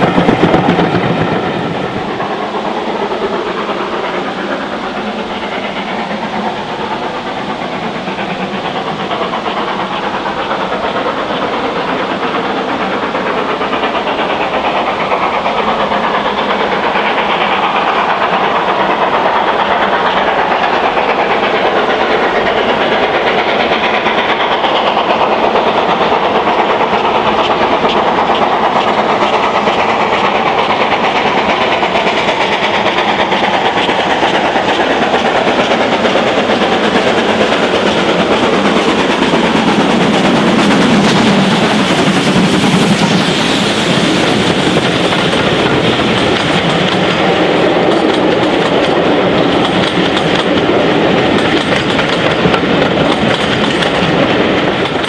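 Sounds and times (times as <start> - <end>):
steam locomotive approaching: 0.0 - 55.0.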